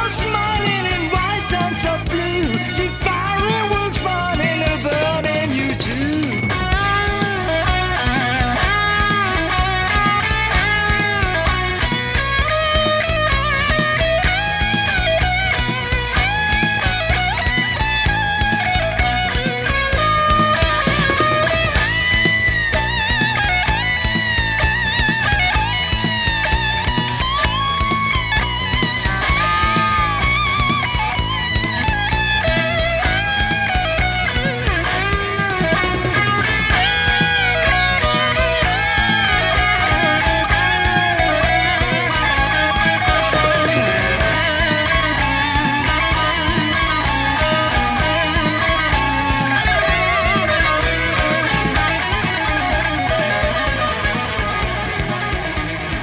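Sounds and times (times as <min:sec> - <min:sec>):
electric guitar lead melody: 0:00.0 - 0:56.0
hard rock instrumental: 0:00.0 - 0:56.0.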